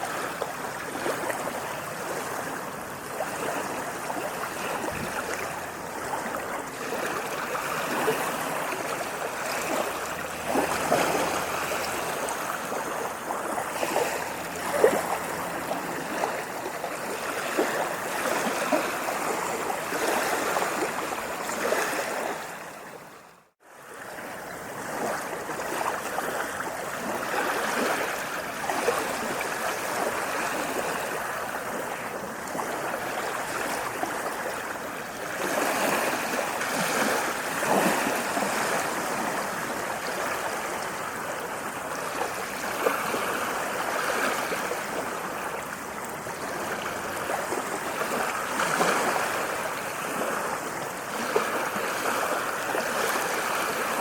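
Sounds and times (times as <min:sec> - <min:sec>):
small waves lapping at shore: 0:00.0 - 0:54.0.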